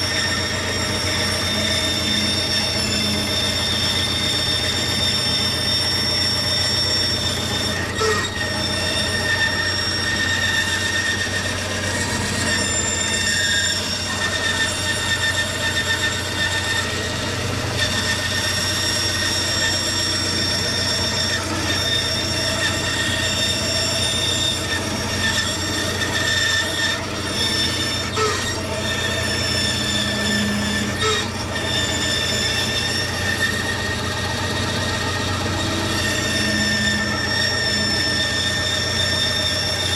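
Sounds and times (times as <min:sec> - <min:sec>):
woodworking power tool whining: 0:00.0 - 0:39.9.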